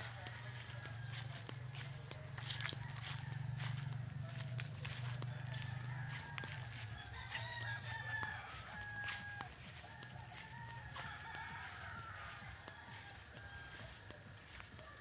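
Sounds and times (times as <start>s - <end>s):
rooster crowing: 0.0s - 15.0s.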